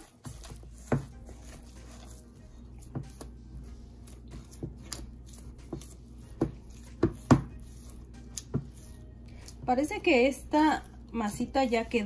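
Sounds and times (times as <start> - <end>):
spatula stirring dough in metal bowl: 0.0 - 12.0.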